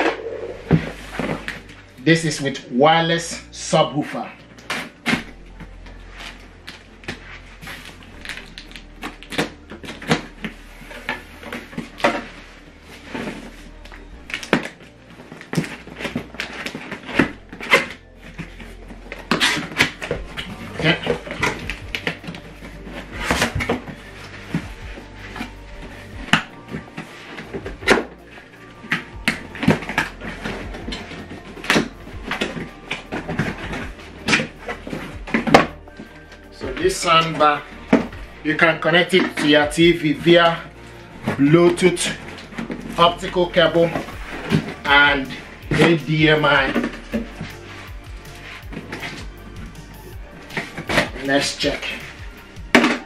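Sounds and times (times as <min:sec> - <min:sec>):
cardboard boxes handled and opened: 0:00.0 - 0:01.9, 0:03.8 - 0:53.0.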